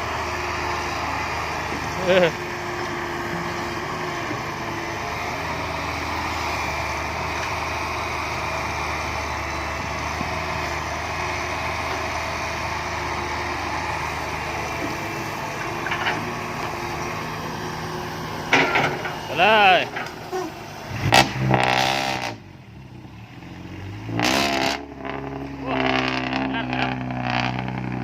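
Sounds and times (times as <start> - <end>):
heavy vehicle engine running: 0.0 - 28.0.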